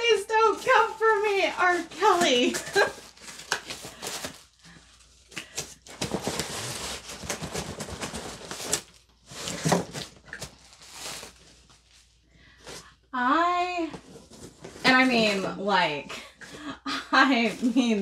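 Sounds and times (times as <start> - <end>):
cardboard rustling and scraping: 0.0 - 12.8, 13.8 - 15.6, 17.2 - 18.0.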